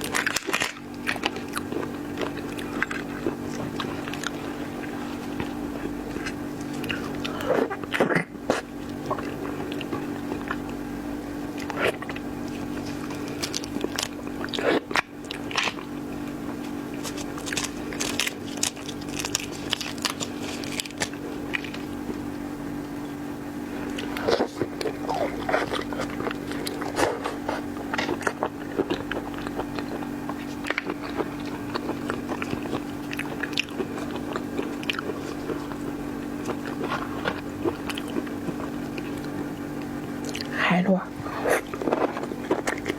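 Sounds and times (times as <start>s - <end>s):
person chewing and crunching: 0.0s - 22.2s, 23.7s - 42.9s.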